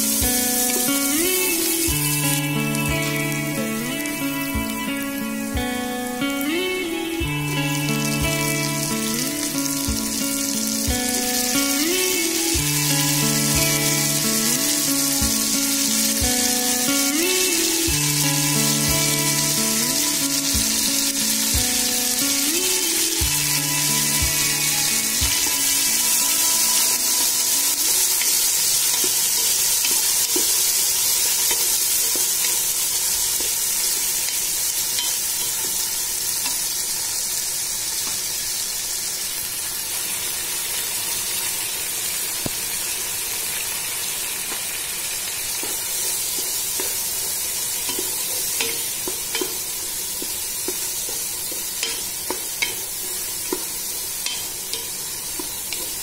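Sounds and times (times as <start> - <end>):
vegetables sizzling in hot oil: 0.0 - 56.0.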